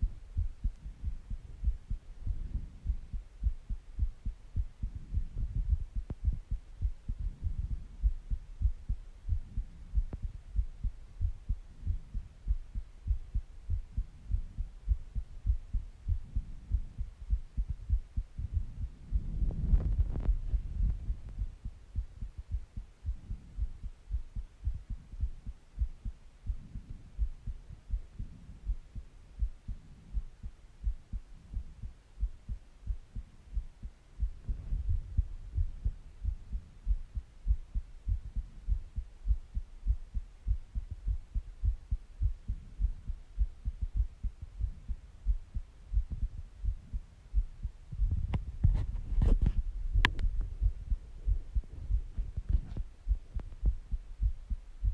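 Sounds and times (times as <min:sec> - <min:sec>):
heartbeat thumps: 0:00.0 - 0:54.9.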